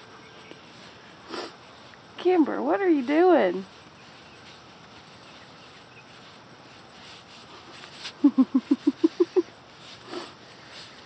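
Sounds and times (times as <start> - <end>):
paws digging in sand: 0.6 - 11.0.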